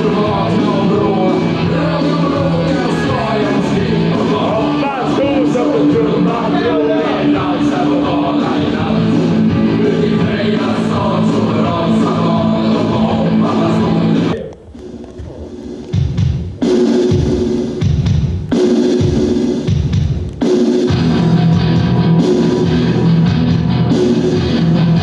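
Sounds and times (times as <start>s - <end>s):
rock music with singing: 0.0s - 25.0s.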